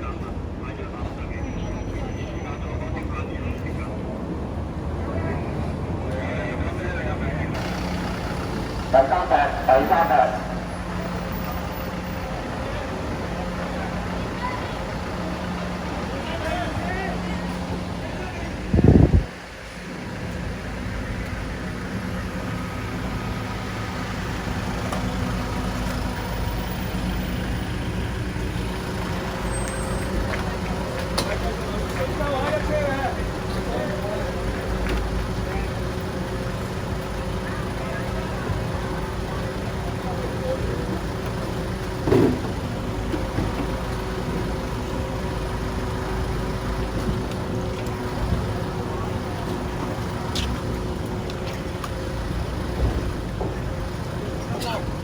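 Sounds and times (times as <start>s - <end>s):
heavy vehicle engine droning: 0.0s - 55.0s.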